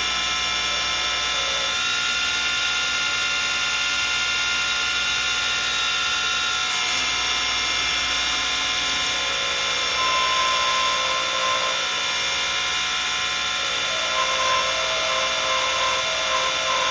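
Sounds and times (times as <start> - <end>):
lathe motor whine: 0.0 - 16.9.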